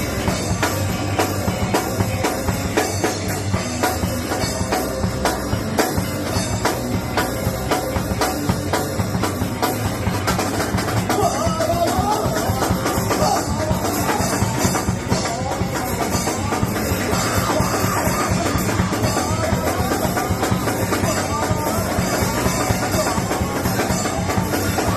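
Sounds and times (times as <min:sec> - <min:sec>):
drum kit pounding fast beats: 0:00.0 - 0:24.9
live rock band: 0:00.0 - 0:24.9.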